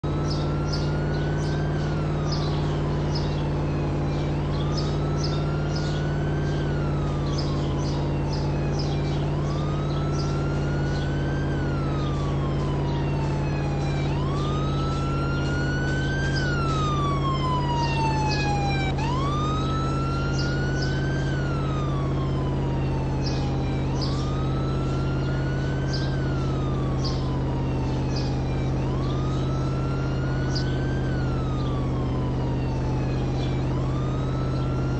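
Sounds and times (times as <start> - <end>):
siren wailing: 0.0 - 34.9.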